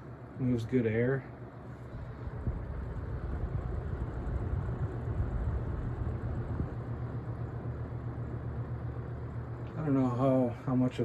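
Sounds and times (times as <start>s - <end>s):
box fan running: 0.0s - 11.0s.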